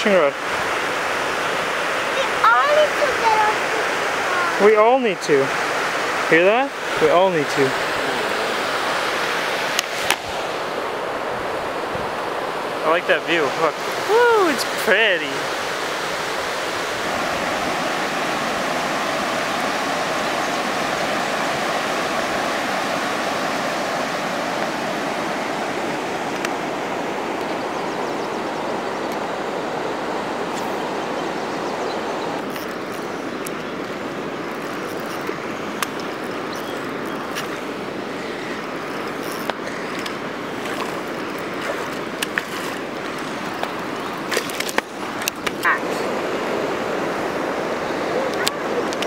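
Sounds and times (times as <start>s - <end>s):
river rushing over rapids: 0.0s - 49.0s.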